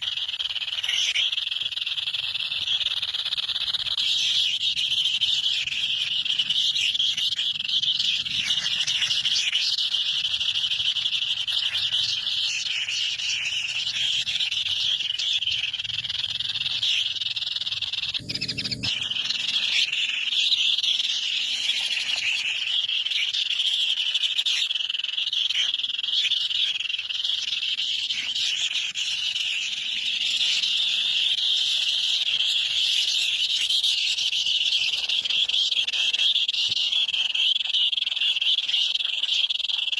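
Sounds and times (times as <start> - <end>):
chorus of trilling animals: 0.0 - 39.9.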